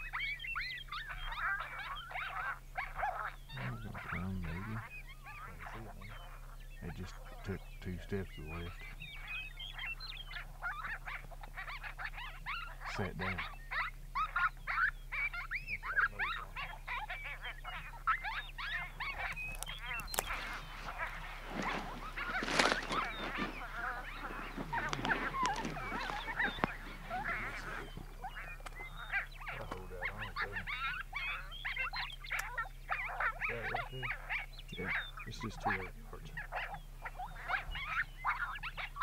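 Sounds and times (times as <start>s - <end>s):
coyote pup whines and yips: 0.0s - 39.0s.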